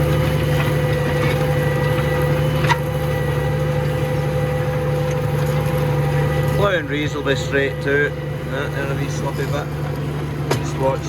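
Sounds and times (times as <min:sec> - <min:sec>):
constant whine: 0:00.0 - 0:11.0
tractor engine running: 0:00.0 - 0:11.0.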